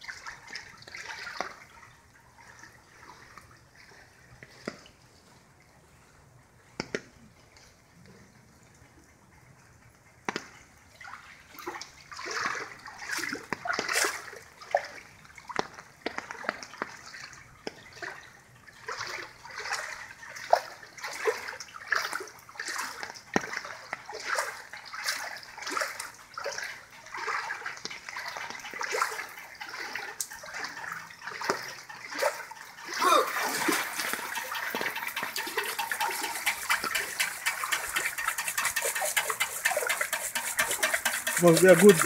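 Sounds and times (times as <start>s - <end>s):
wading through water splashing: 0.0s - 6.1s, 10.9s - 15.6s, 16.2s - 42.0s.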